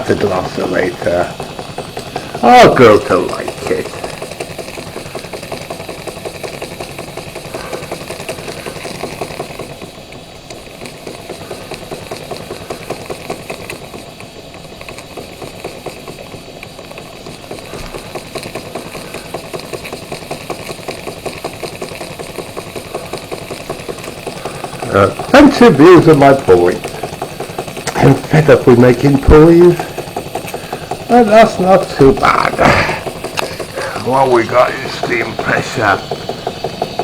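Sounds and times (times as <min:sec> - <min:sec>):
steady hiss of steam: 0:00.0 - 0:37.0
steam engine chuffing: 0:00.0 - 0:37.0.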